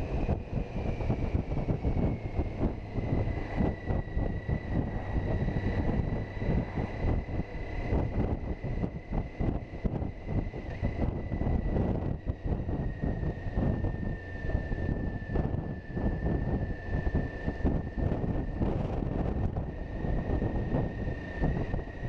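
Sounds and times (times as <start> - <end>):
motorcycle engine and road rumble: 0.0 - 22.0
thin steady high whine: 0.0 - 22.0
wind buffeting microphone: 0.0 - 22.0.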